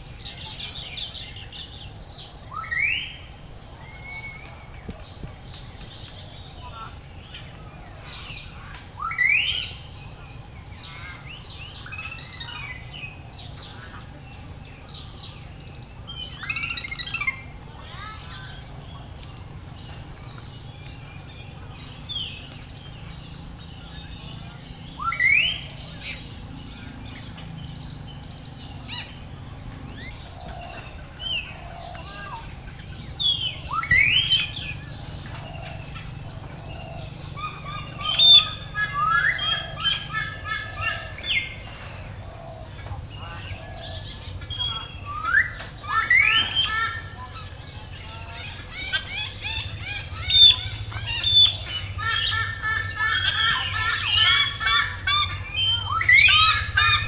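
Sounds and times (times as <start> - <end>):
sharply rising bird call: 0.0 - 5.1, 14.7 - 19.2, 20.0 - 57.0
birds chirping: 0.0 - 57.0.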